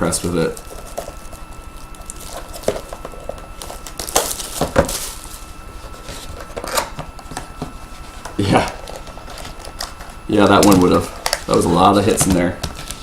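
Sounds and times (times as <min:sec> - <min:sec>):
cards and wrappers rustling: 0:00.0 - 0:13.0.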